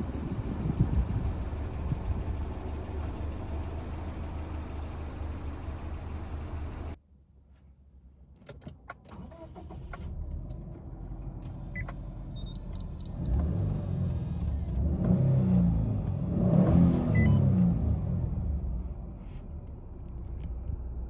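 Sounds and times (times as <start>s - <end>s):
car engine rumbling: 0.0s - 7.0s, 9.1s - 21.0s.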